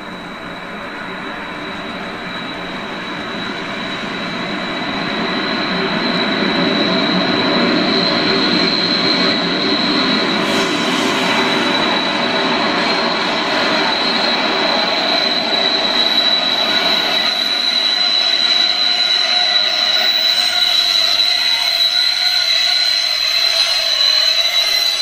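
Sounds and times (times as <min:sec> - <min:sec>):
high-pitched whine: 0:00.0 - 0:25.0
model train rumbling on track: 0:00.0 - 0:25.0.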